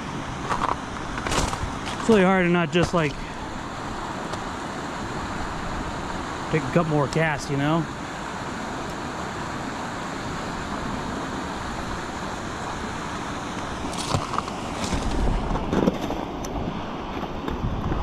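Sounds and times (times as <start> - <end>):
wind buffeting microphone: 0.0 - 7.2, 10.4 - 18.0
river water rushing: 0.0 - 17.1.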